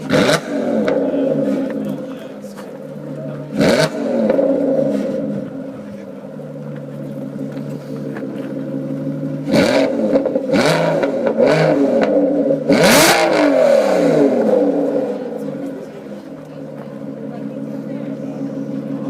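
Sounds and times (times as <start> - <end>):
car engine idling: 0.0 - 19.0
engine revving with exhaust bark: 0.0 - 19.0.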